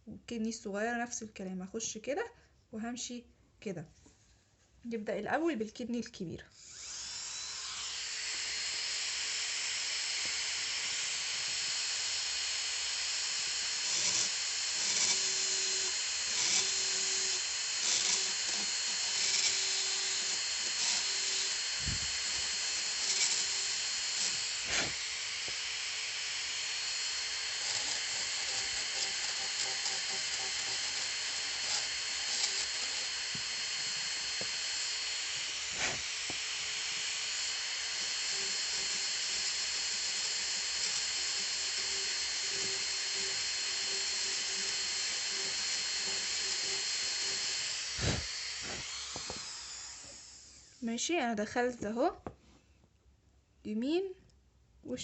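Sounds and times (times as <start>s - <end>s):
dental drill whining: 6.5s - 50.9s.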